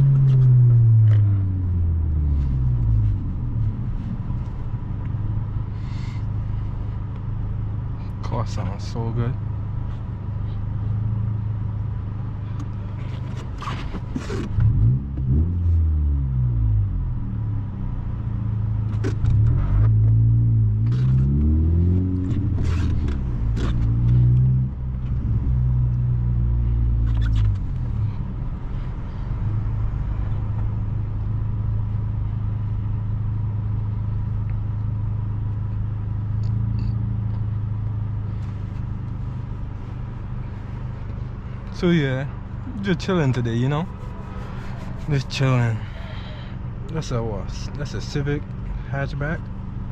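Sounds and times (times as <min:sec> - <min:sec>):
car engine accelerating: 0:00.0 - 0:07.3, 0:10.8 - 0:49.9.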